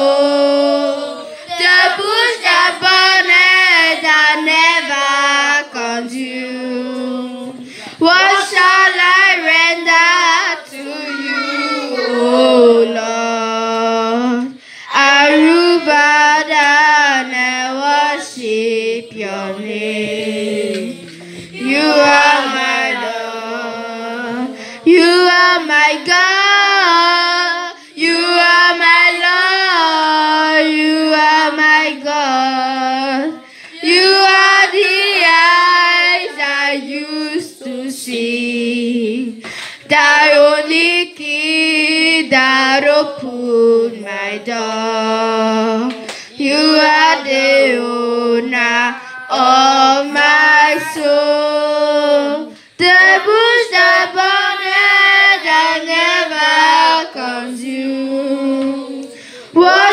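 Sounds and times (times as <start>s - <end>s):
children singing along: 0.0s - 59.9s
girl singing into a microphone: 0.0s - 59.9s.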